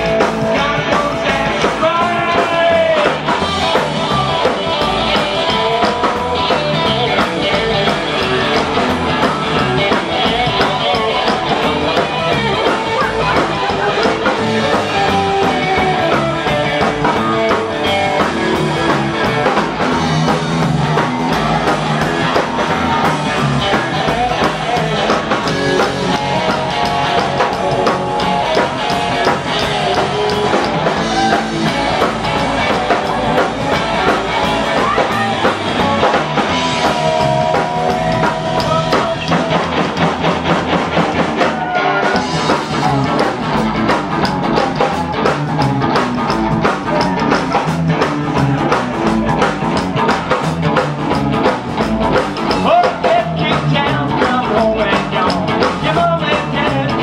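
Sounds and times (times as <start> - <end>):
drum kit beat: 0.0 - 57.0
electric guitar: 0.0 - 57.0
rockabilly band playing: 0.0 - 57.0.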